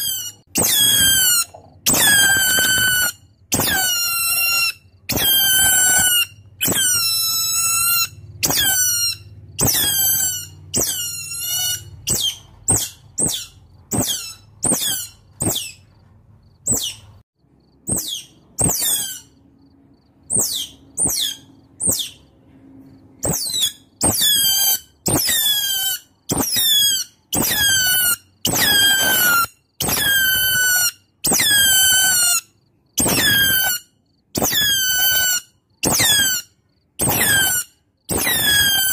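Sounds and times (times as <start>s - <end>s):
otter squeaking calls: 0.0s - 15.8s, 16.7s - 17.1s, 17.9s - 19.4s, 20.3s - 22.2s, 23.2s - 38.9s
otter chirps: 0.0s - 38.9s.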